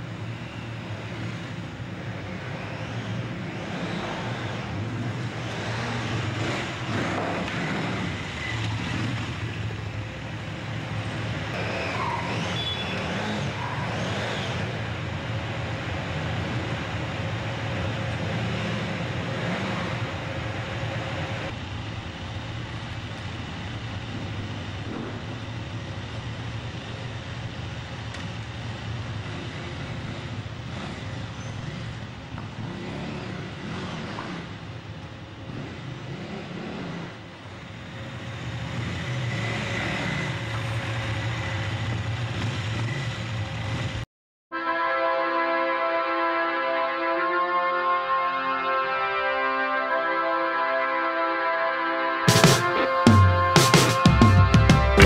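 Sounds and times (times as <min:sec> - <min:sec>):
motorcycle engine running: 0:00.0 - 0:44.0, 0:52.3 - 0:55.0.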